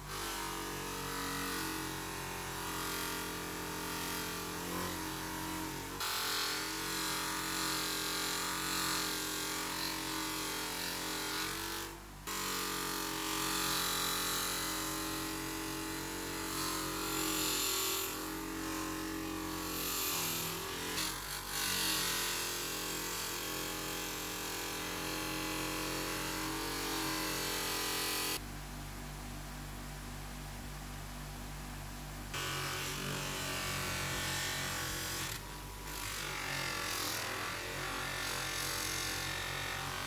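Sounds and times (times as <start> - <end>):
bench grinder motor hum: 0.0 - 28.4, 32.3 - 40.0.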